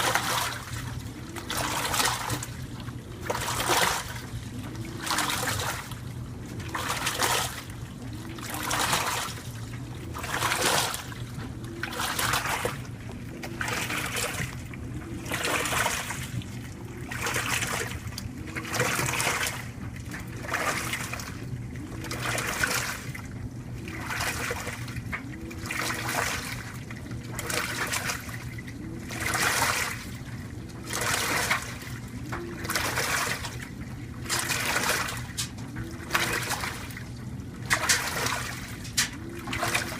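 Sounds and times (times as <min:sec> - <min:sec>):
clothes dryer humming: 0:00.0 - 0:39.9
washing machine motor whine: 0:00.0 - 0:39.9
water swishing through clothes: 0:00.0 - 0:39.9.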